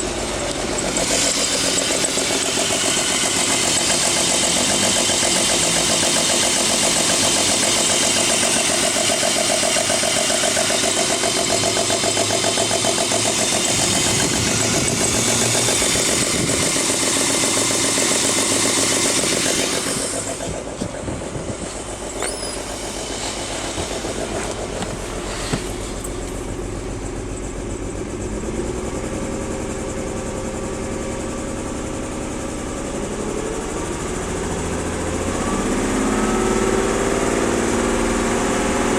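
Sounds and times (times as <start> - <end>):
car engine idling roughly: 0.0 - 38.9.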